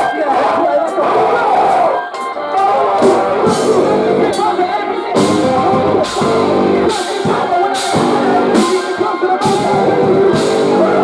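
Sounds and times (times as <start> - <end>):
heavy rock band playing live: 1.7 - 11.0.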